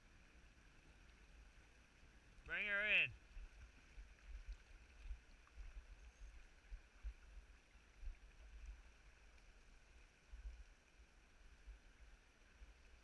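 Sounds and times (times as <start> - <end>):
faint river current rushing: 0.0 - 13.0.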